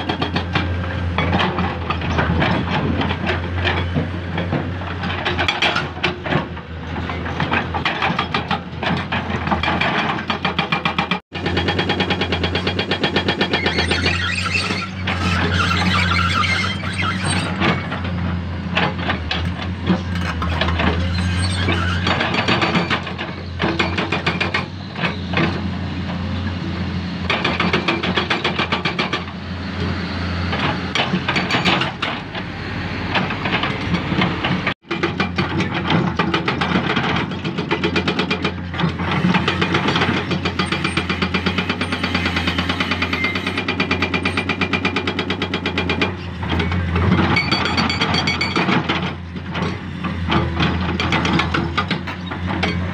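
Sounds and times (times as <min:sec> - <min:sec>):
excavator diesel engine under load: 0:00.0 - 0:10.2, 0:11.4 - 0:52.9.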